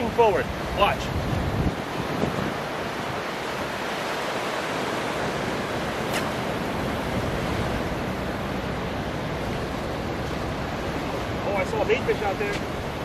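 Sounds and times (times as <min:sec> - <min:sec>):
surf breaking on beach: 0:00.0 - 0:13.0
wind on microphone: 0:00.0 - 0:13.0.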